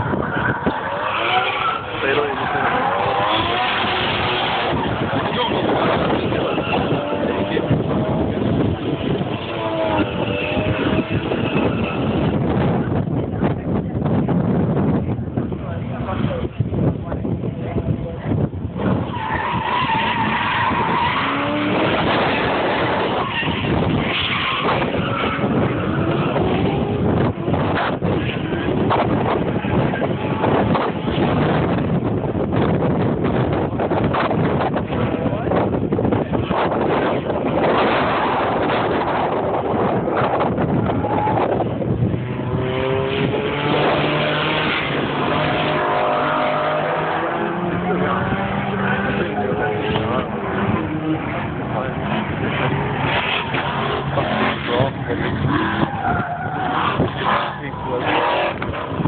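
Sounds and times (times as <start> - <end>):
tyres squealing and skidding: 0.0 - 12.6, 18.8 - 31.3, 34.9 - 59.0
car engine at high revs: 0.0 - 59.0.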